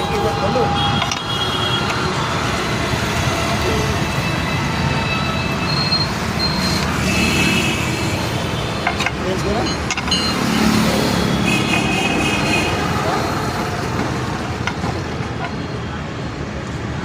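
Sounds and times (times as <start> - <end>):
motor vehicle noise: 0.0 - 17.0.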